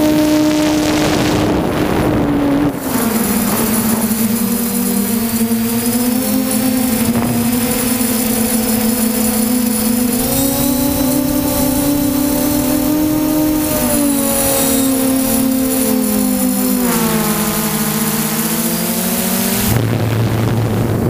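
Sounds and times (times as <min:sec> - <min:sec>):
multirotor drone motors droning: 0:00.0 - 0:21.0.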